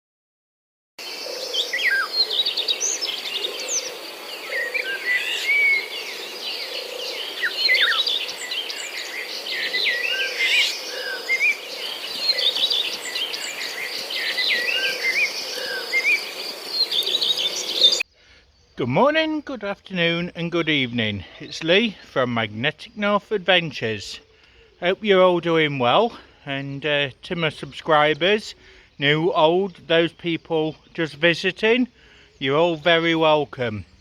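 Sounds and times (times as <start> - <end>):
birds chirping and whistling: 1.1 - 22.2, 23.0 - 34.0.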